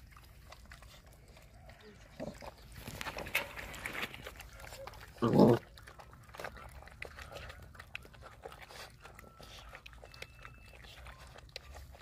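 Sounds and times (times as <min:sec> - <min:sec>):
puppies chewing: 0:00.0 - 0:12.0.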